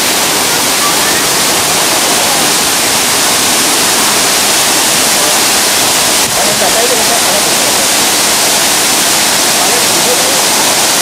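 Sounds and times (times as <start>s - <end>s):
waterfall rushing onto rocks: 0.0s - 11.0s.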